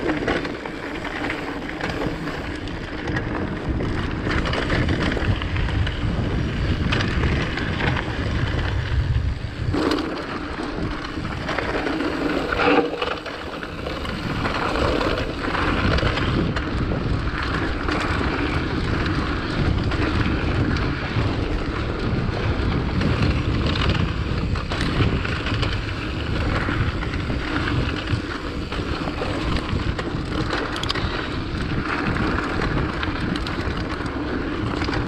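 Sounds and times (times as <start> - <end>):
bike rattle and tyre noise: 0.0 - 35.0
wind buffeting microphone: 0.0 - 35.0.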